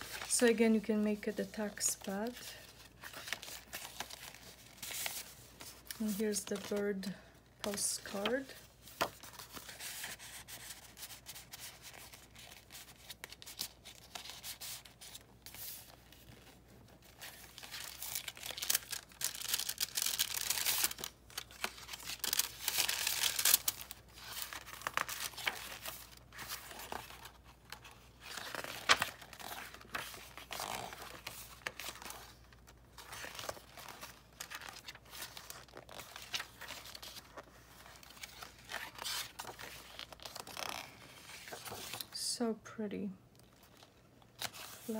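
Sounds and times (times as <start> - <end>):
paper rustling and crinkling: 0.0 - 42.2, 43.4 - 44.9.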